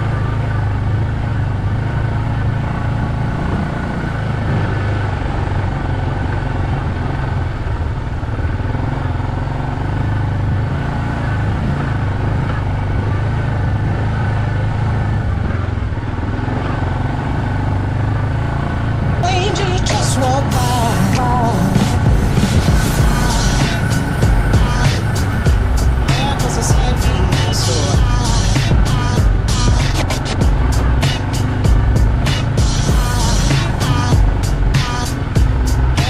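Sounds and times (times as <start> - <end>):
quad bike engine humming: 0.0 - 36.0.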